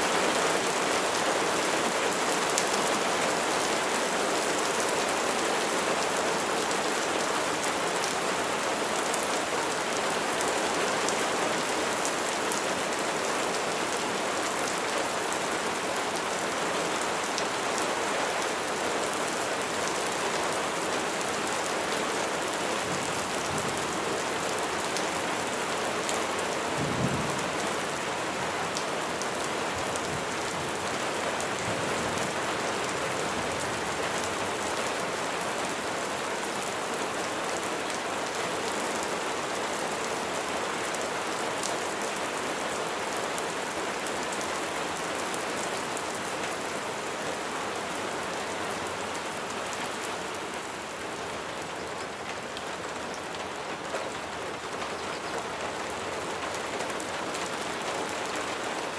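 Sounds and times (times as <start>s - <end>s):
heavy rain pattering: 0.0s - 58.9s.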